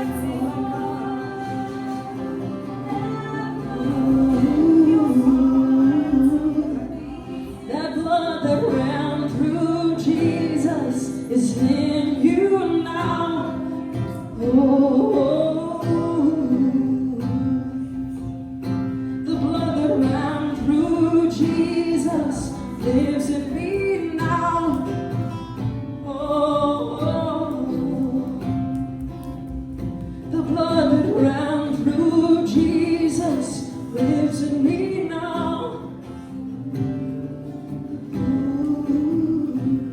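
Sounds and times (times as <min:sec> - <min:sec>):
person singing: 0:00.0 - 0:18.2, 0:19.2 - 0:25.3, 0:26.0 - 0:29.1, 0:30.3 - 0:36.0, 0:38.0 - 0:39.9
guitar accompaniment: 0:00.0 - 0:39.9.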